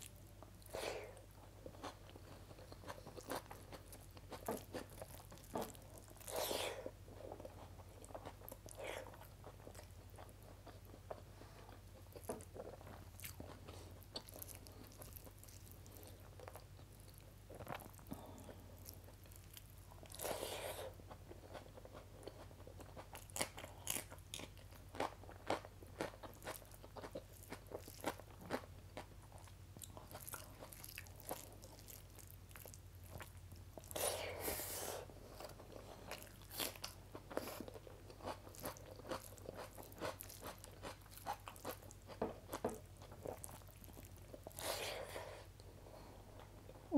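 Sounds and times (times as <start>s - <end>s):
chewing: 0.0s - 45.7s.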